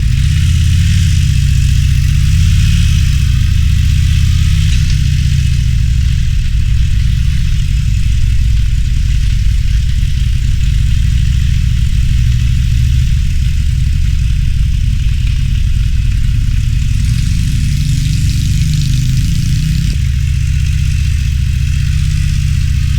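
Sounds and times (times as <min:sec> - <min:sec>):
motorcycle engine idling low rumble: 0:00.0 - 0:22.9.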